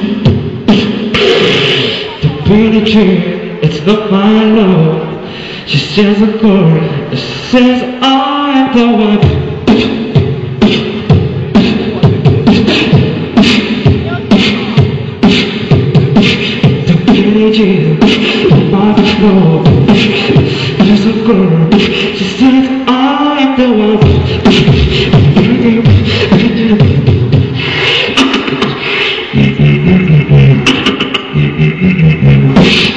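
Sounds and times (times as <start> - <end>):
beatboxing drum sounds: 0.0 - 4.3, 7.1 - 32.9.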